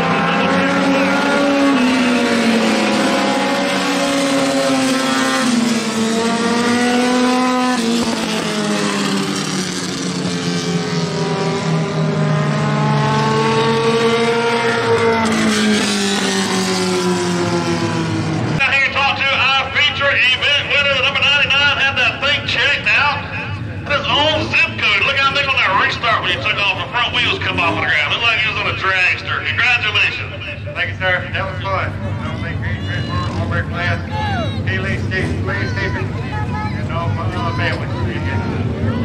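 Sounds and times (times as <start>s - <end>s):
race car engines: 0.0s - 39.0s.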